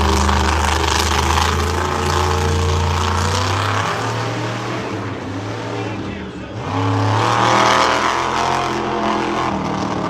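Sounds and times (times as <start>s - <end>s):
truck engine idling low: 0.0s - 10.0s.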